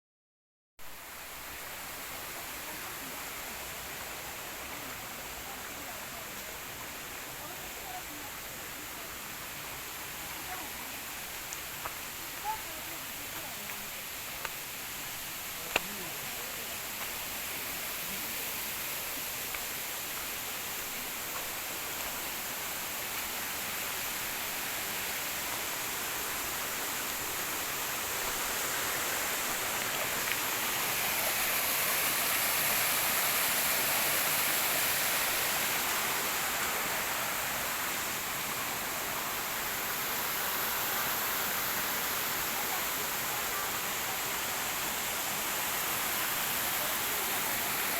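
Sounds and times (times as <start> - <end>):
stream rushing over rocks: 0.8 - 47.9.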